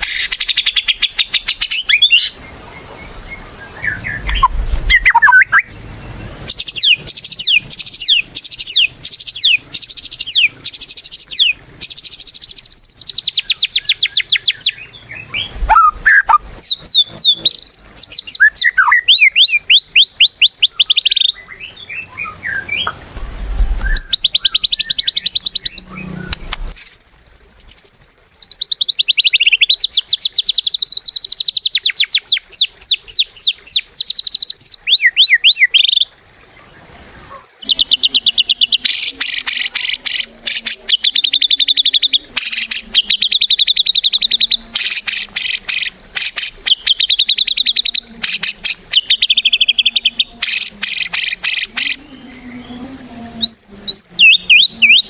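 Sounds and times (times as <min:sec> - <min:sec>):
bird singing fast trills: 0:00.0 - 0:23.0, 0:23.7 - 0:55.0.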